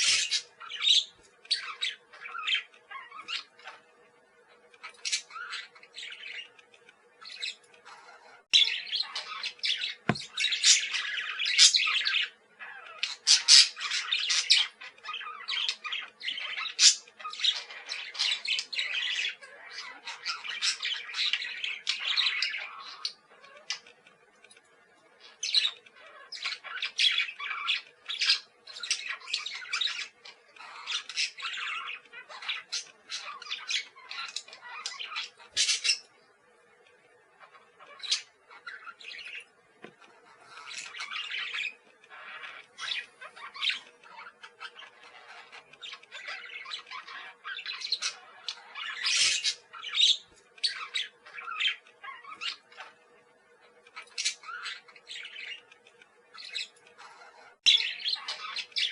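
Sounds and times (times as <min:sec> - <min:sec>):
parakeets chattering and squawking: 0:00.0 - 0:58.9.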